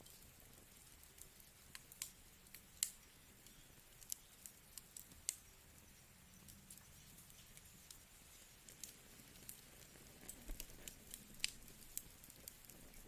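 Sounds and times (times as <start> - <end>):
fire hissing: 0.0 - 13.0
logs crackling and popping: 0.0 - 13.0.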